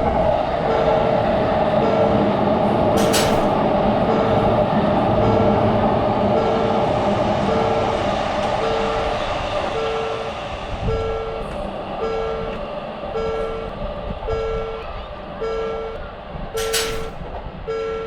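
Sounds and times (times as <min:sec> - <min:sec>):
electric train running past: 0:00.0 - 0:18.0
level crossing warning bell: 0:00.4 - 0:18.0.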